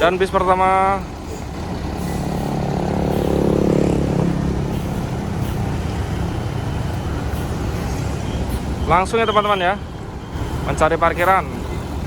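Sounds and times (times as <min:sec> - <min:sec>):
bus engine running: 0:00.0 - 0:09.1, 0:09.8 - 0:12.0.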